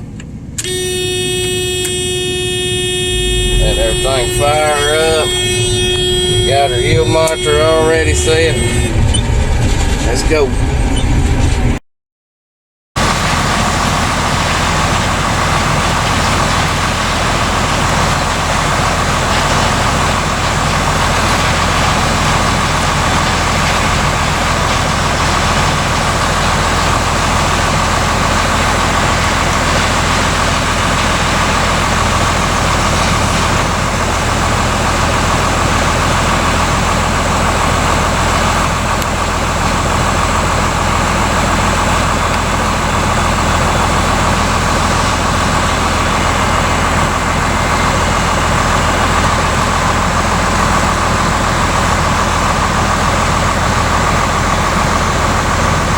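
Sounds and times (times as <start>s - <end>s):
combine harvester engine droning: 0.0s - 11.8s, 13.0s - 55.9s.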